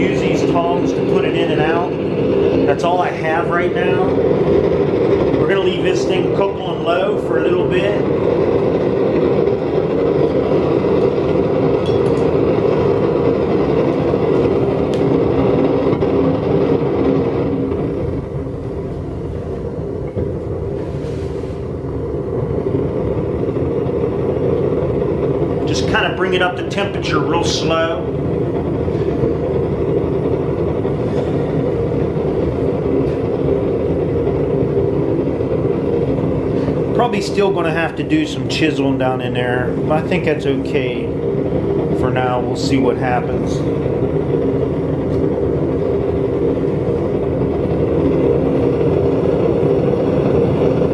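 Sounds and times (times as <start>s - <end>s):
burner flame roaring: 0.0s - 50.9s.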